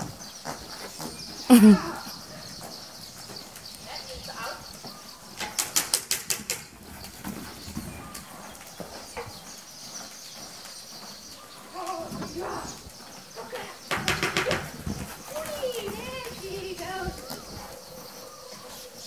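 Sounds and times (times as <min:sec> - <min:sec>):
hoofbeats thudding on sand: 0:00.0 - 0:19.0.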